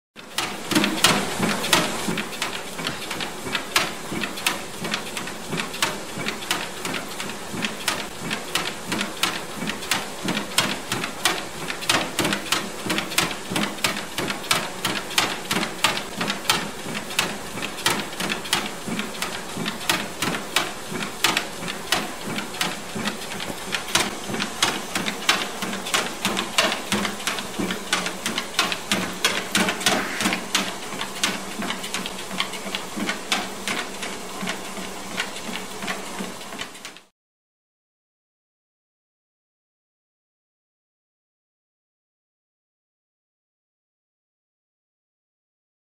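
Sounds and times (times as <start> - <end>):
dog feet tapping treadmill belt: 0.2 - 37.1
treadmill motor hum: 0.2 - 37.1.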